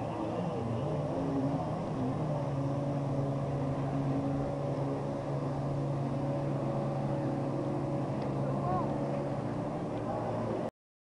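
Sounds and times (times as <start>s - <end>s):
jet ski engine running: 0.0s - 10.7s.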